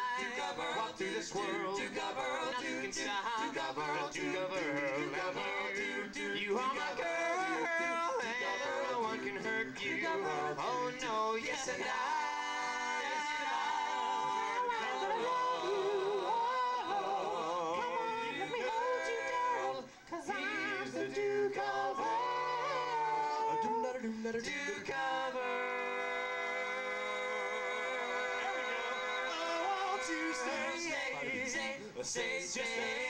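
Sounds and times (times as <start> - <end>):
male vocal group singing harmony: 0.0 - 33.0.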